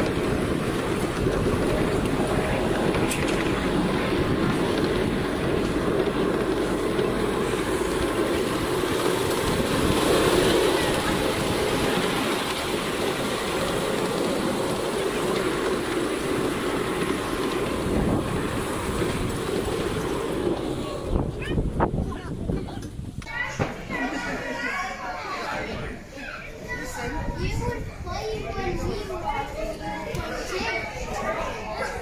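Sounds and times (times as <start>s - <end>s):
miniature train rumbling on track: 0.0s - 32.0s.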